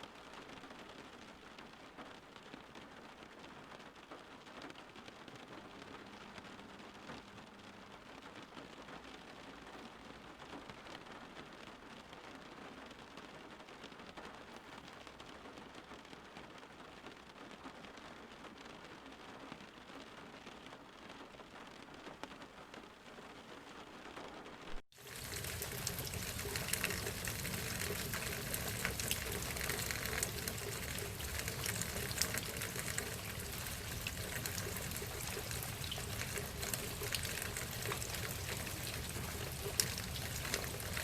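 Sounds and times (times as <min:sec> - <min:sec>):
light rain on leaves: 0:00.0 - 0:41.0.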